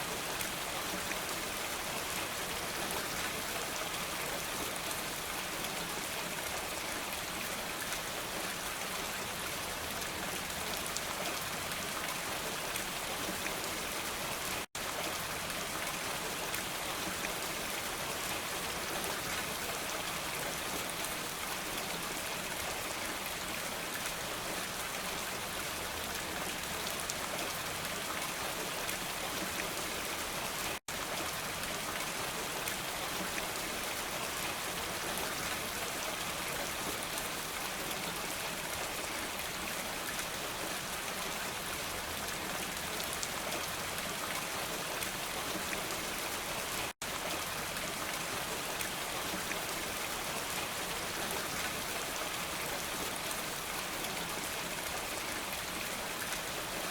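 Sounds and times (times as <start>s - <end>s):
heavy rainfall: 0.0s - 56.9s.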